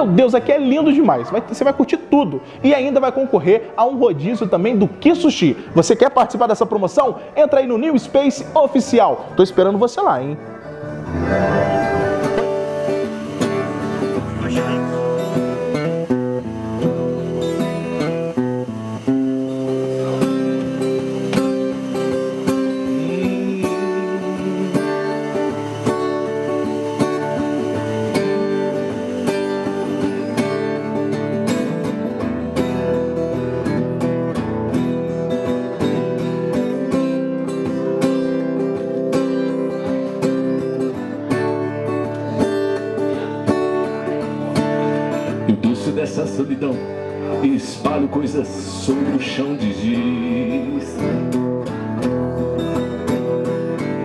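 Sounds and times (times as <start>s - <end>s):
acoustic guitar strummed: 8.0s - 54.0s.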